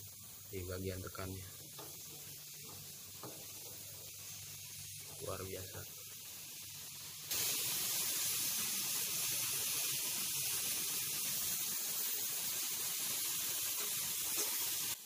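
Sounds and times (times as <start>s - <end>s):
refrigerant hissing from valve: 0.0s - 15.0s.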